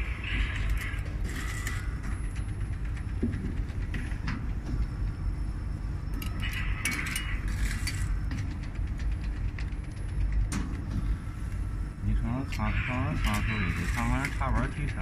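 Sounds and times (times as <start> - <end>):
weaving machine rumbling: 0.0 - 15.0.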